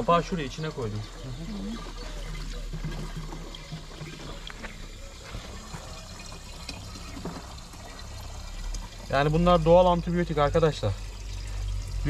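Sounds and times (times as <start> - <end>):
tap water running into container: 0.0 - 12.0.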